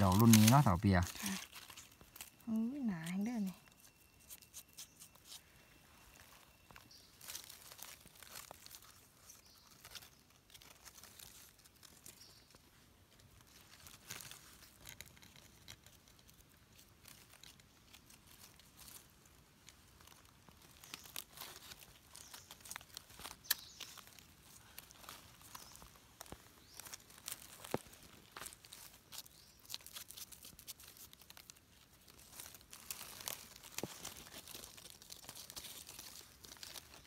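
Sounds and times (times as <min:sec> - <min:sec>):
dry leaves crackling: 0:00.0 - 0:37.0.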